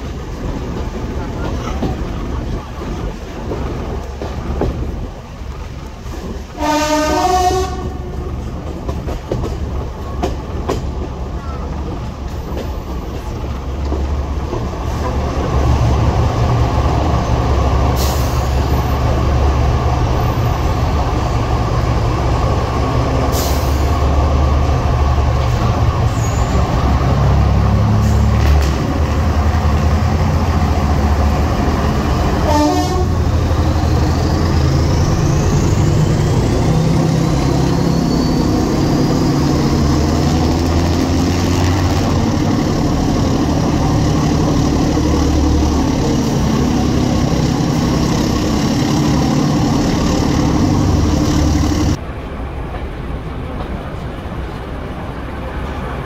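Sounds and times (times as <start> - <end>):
diesel train running in tunnel: 0.0 - 56.0.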